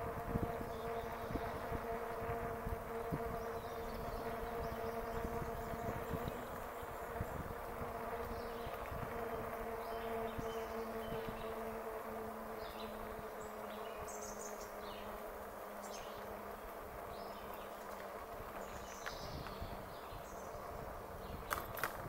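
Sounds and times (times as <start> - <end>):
wind rumbling on microphone: 0.0 - 14.1, 16.1 - 22.0
electric bike motor humming: 0.0 - 22.0.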